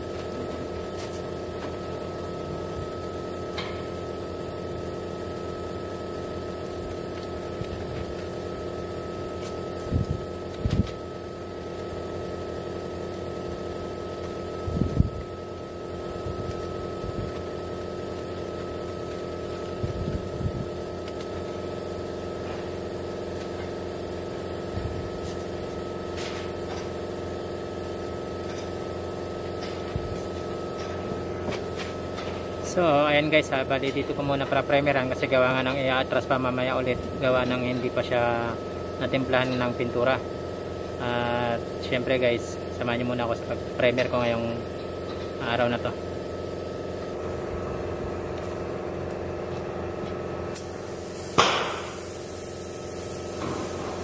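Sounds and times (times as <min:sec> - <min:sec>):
constant whine: 0:00.0 - 0:54.0
machinery humming: 0:00.0 - 0:54.0.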